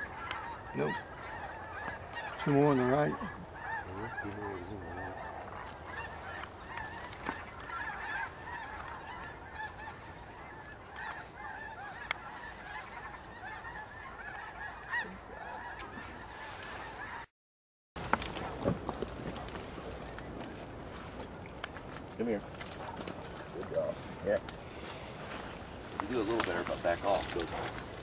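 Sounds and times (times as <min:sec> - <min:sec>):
geese honking: 0:00.0 - 0:17.3, 0:18.1 - 0:28.0.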